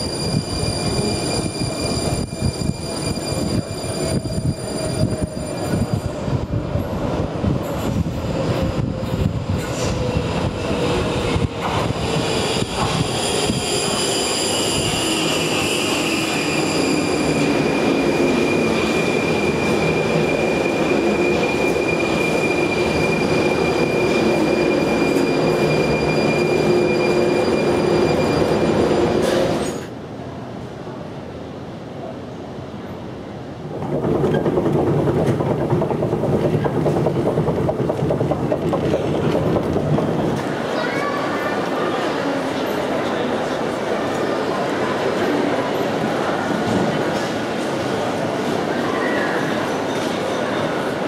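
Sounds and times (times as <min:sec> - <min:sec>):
metro train wheels rumbling on rails: 0:00.0 - 0:51.0.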